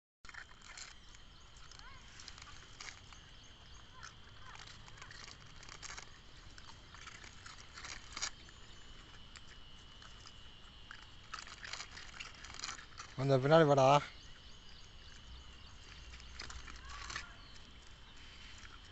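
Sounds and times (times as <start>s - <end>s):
puppies crunching dog biscuits: 0.2s - 18.9s.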